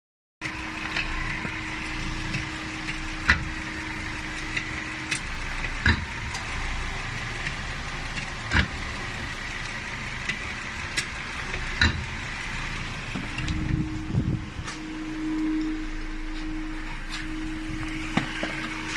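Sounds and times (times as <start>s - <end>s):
car running with steady hum: 0.4s - 18.9s.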